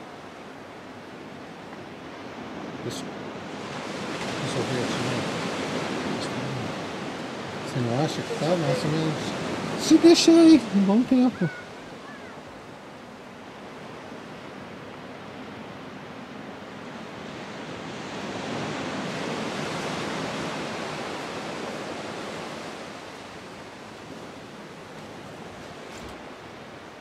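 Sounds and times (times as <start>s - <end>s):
waves washing onto sand: 0.0s - 27.0s.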